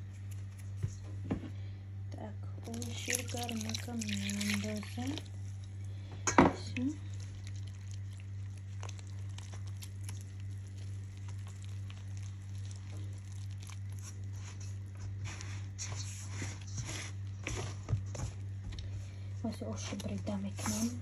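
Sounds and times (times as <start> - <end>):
dough kneading crunching and rustling: 0.0 - 1.3, 2.6 - 21.0
steady low hum: 0.0 - 21.0.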